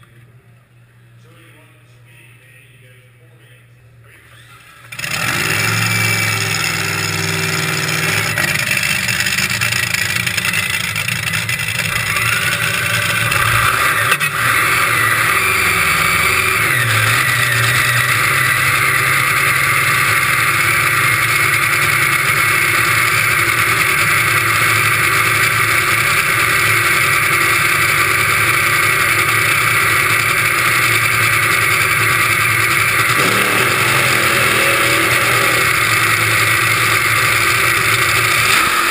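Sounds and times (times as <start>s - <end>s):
dragster engine idling loudly: 4.5s - 38.9s.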